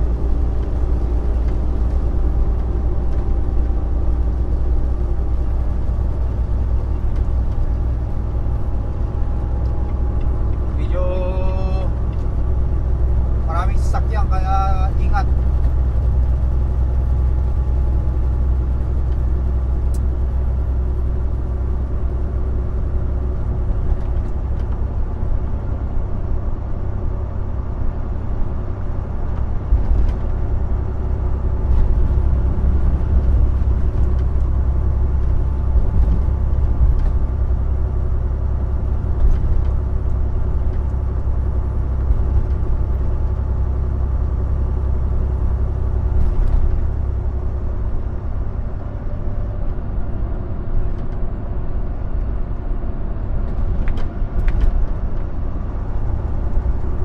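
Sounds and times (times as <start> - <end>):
truck cab engine and road drone: 0.0 - 57.0.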